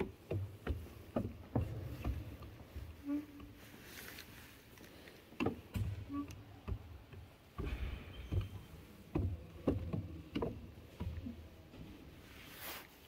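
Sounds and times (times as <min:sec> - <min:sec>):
wooden gears clacking: 0:00.0 - 0:03.6, 0:04.2 - 0:12.0.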